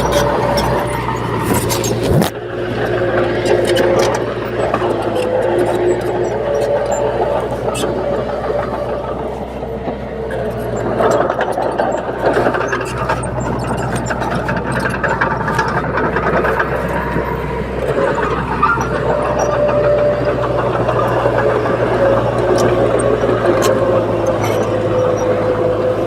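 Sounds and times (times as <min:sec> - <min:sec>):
bulldozer diesel engine hum: 0:00.0 - 0:26.0.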